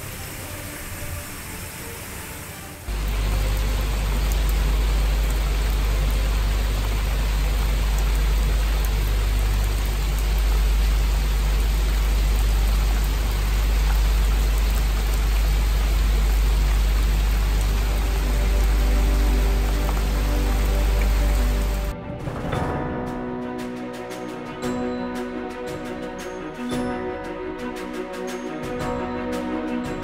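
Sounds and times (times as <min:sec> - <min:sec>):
rain falling on water and deck: 0:00.0 - 0:22.9, 0:23.6 - 0:30.0.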